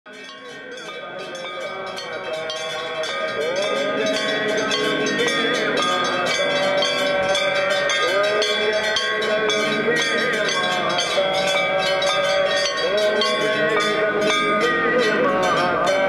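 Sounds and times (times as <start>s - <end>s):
bells ringing fast: 0.1s - 16.0s
voices singing a chant: 0.1s - 16.0s.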